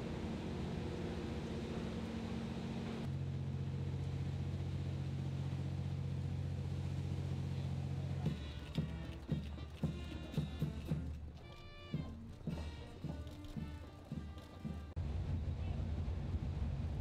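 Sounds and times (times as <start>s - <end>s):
ship engines droning: 0.0s - 16.6s.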